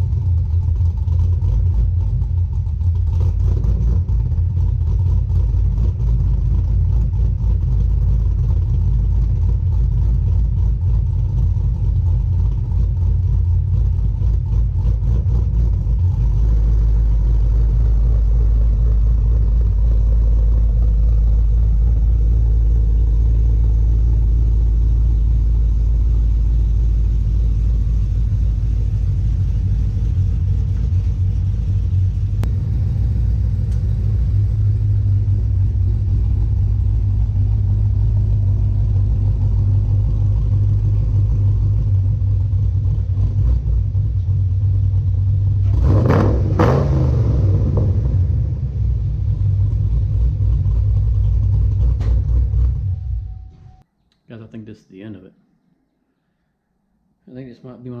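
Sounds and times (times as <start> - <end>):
car engine low rumble: 0.0 - 56.6.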